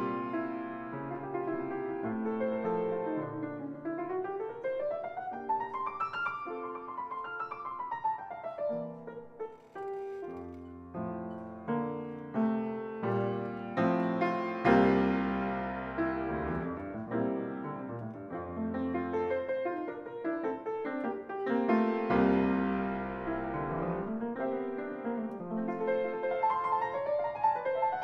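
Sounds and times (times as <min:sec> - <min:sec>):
grand piano playing: 0:00.0 - 0:28.0.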